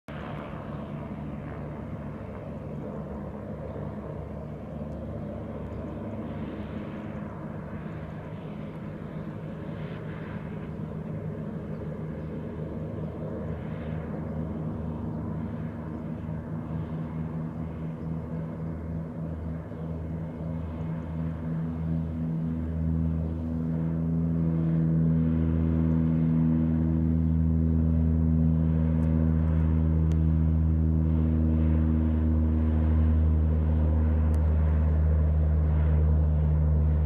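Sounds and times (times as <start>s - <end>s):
propeller aircraft engines droning: 0.1s - 37.0s.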